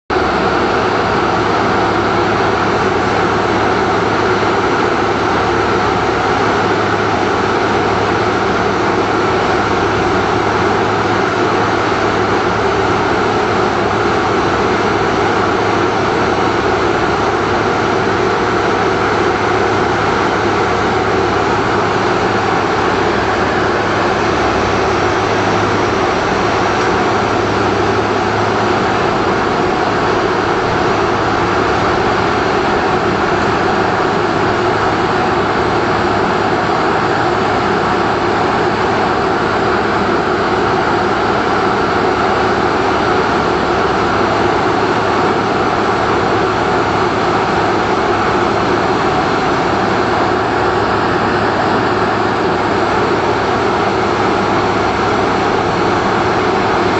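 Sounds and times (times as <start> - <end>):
broad rush of noise: 0.1 - 56.9
harvesting machinery engine drone: 0.1 - 56.9.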